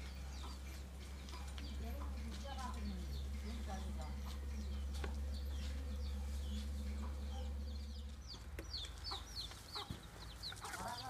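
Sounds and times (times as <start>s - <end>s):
chickens peeping: 0.0s - 11.0s
low rumble: 1.0s - 10.2s.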